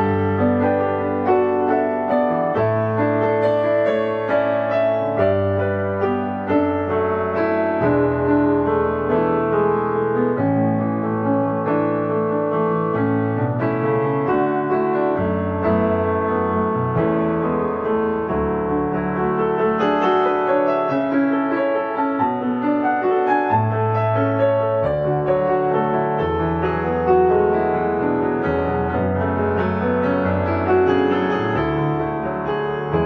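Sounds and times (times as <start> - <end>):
soft piano music: 0.0 - 33.0.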